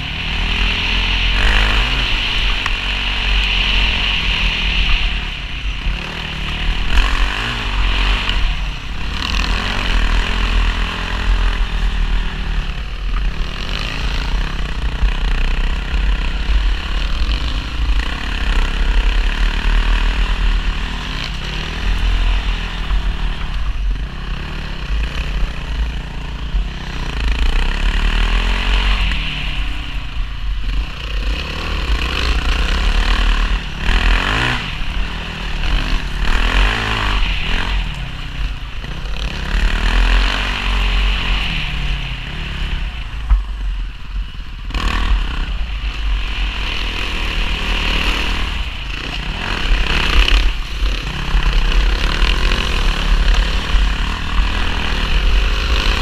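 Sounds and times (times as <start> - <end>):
dirt bike engine revving: 0.0 - 56.0
heavy low rumble: 0.0 - 56.0.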